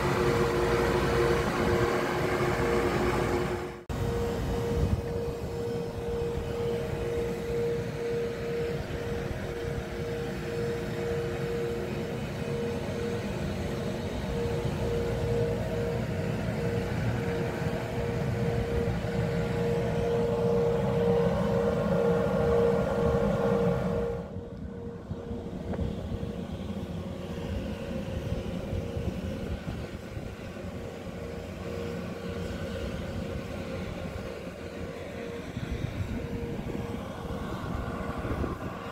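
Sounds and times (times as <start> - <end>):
ship machinery humming drone: 0.0 - 38.9.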